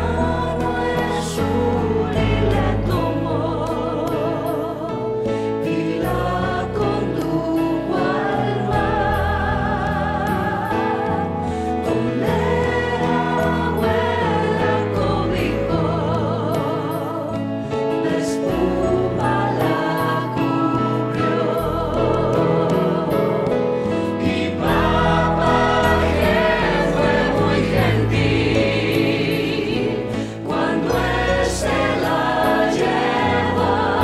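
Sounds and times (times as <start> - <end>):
group singing with vibrato: 0.0 - 34.0
instrumental accompaniment: 0.0 - 34.0.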